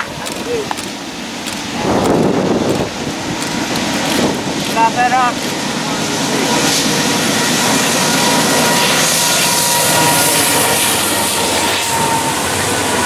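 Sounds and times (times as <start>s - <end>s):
thin steady whine: 0.2s - 13.0s
freight train rumbling past: 0.9s - 13.0s.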